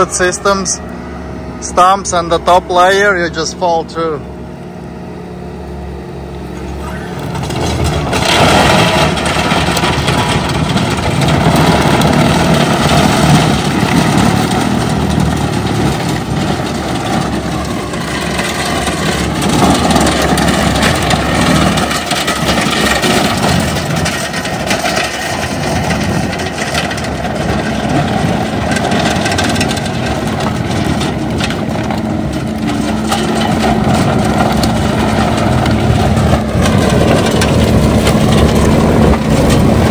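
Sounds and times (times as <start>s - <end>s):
engine running under load: 0.0s - 39.9s
rotor grinding stumps and soil: 0.0s - 39.9s.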